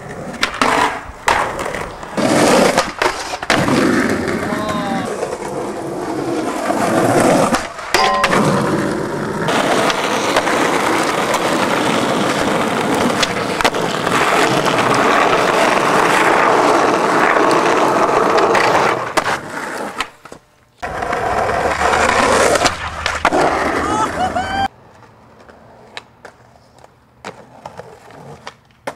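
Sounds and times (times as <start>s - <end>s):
skateboard clacking: 0.0s - 28.9s
skateboard wheels rolling on asphalt: 0.0s - 28.9s.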